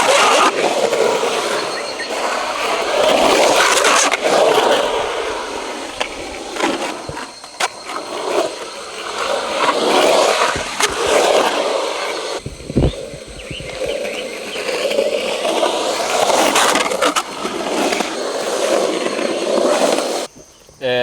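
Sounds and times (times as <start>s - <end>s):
skateboard clacking on ground: 0.0s - 20.4s
skateboard wheels rolling on concrete: 0.0s - 21.0s.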